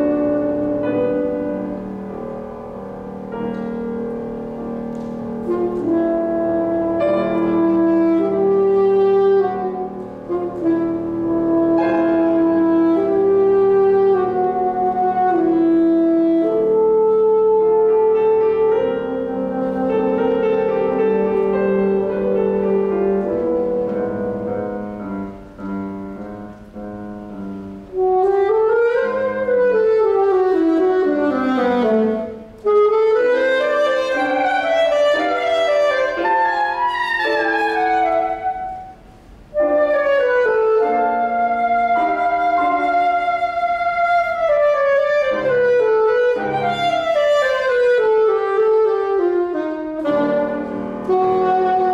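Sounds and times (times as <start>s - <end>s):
saxophone playing classical piece: 0.0s - 51.9s.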